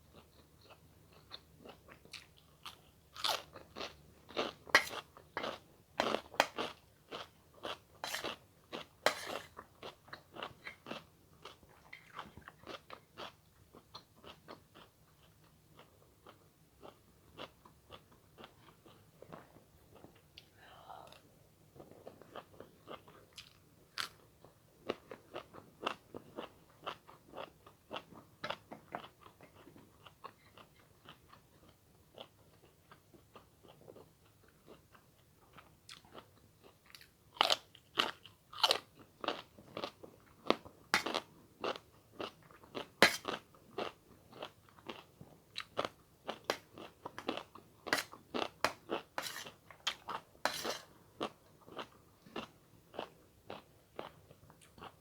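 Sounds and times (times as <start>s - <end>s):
person chewing and crunching food: 0.1s - 55.0s.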